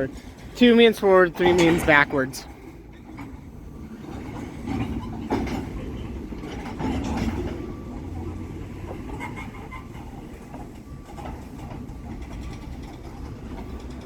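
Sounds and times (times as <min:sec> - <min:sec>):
freight train wheels rumbling: 0:00.0 - 0:14.0
train clanking: 0:00.0 - 0:14.0.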